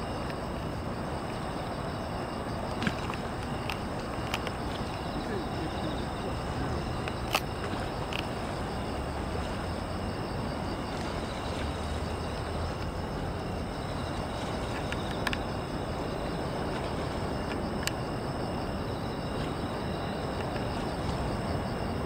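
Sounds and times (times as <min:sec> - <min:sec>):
distant traffic hum: 0:00.0 - 0:22.0
insects chirping: 0:00.0 - 0:22.0.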